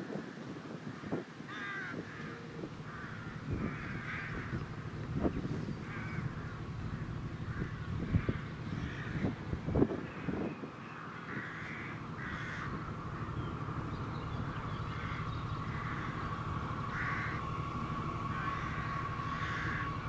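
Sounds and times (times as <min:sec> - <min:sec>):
crows cawing: 0:00.9 - 0:20.0
train rumble and whine: 0:01.7 - 0:20.0
low bumps: 0:02.6 - 0:10.4, 0:11.5 - 0:20.0.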